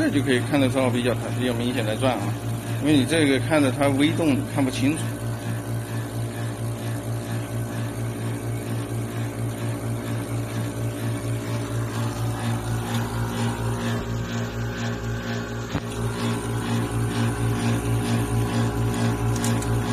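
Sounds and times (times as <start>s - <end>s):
even pulsing pump: 0.0s - 19.9s
low machine hum: 0.0s - 19.9s.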